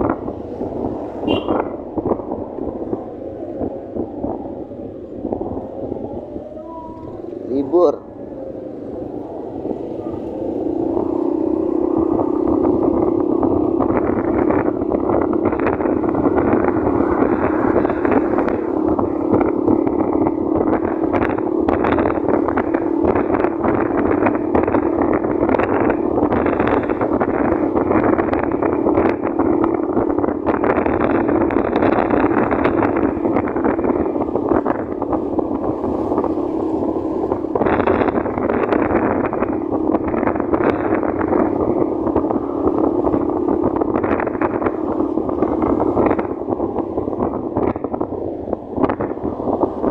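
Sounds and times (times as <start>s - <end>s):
motorcycle engine running: 0.0s - 49.9s
road noise: 0.0s - 49.9s
wind on microphone: 0.0s - 49.9s.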